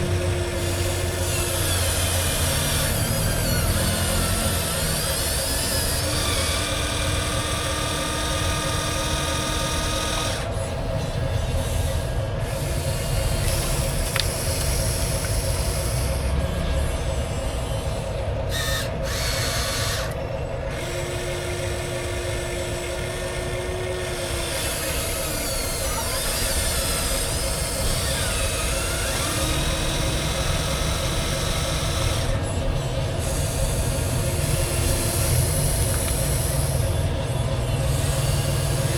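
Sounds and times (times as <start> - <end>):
toy electric motors whining: 0.0 - 38.9.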